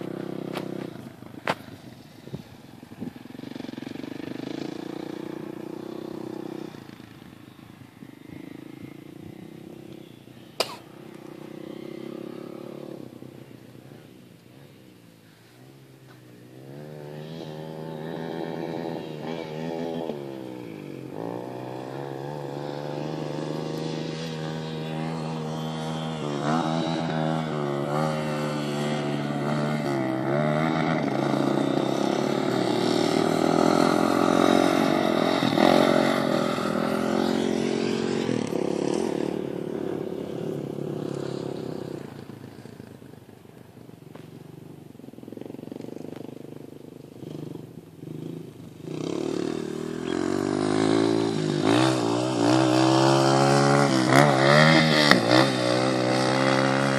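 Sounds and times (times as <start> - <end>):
dirt bike engine revving: 0.0 - 42.9, 47.2 - 56.9.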